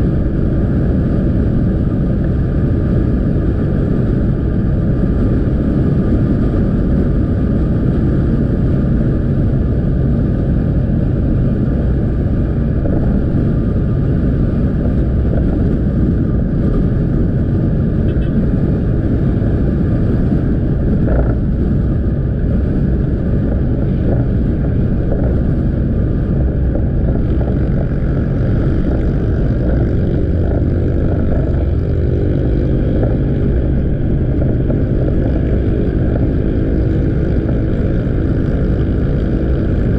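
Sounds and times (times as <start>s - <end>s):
motorbike engine running: 0.0s - 39.9s
wind rumble on microphone: 0.0s - 39.9s.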